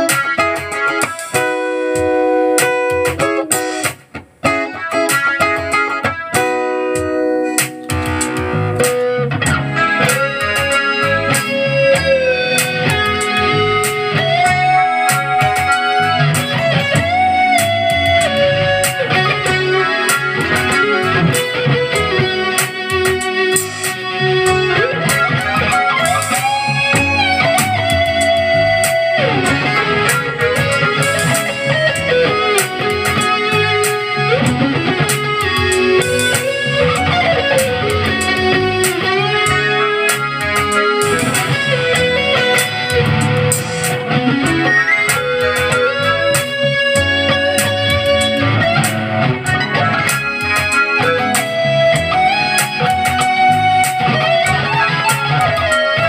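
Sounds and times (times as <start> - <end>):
drums: 0.0 - 56.0
electric guitar lead melody: 0.0 - 56.0
bass: 7.0 - 56.0.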